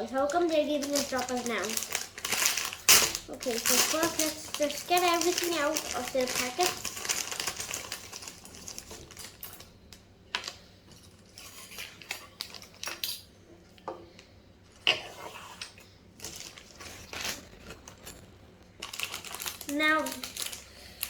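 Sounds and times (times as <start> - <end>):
plastic packaging rustling: 0.0 - 13.2, 16.2 - 21.0.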